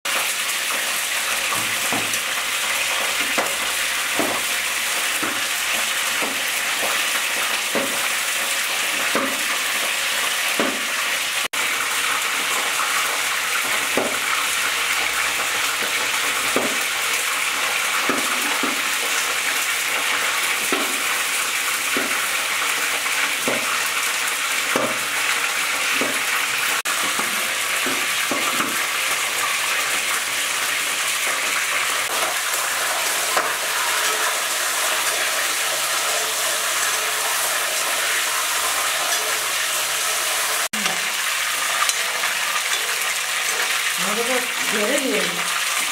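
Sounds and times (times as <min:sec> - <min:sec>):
food sizzling in hot oil: 0:00.1 - 0:45.9.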